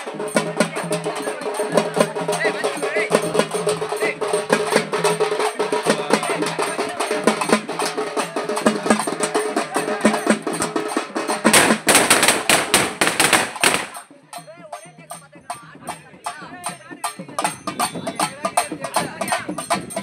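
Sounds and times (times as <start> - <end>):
frame drums struck with sticks: 0.0 - 20.0.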